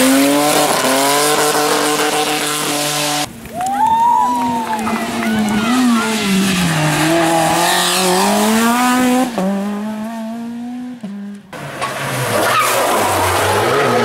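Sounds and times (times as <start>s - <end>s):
rally car engine revving: 0.0s - 3.3s, 4.9s - 14.0s.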